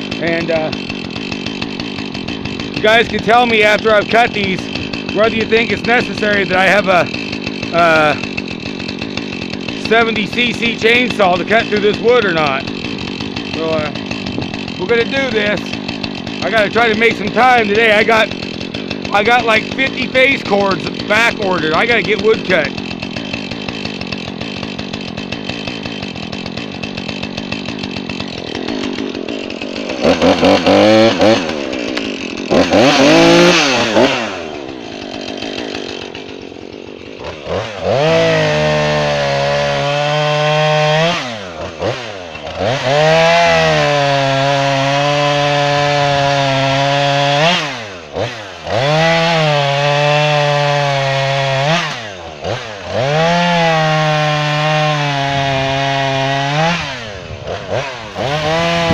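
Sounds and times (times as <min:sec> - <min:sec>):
chainsaw cutting wood: 0:00.0 - 0:58.9
chainsaw idling and revving: 0:00.0 - 0:58.9.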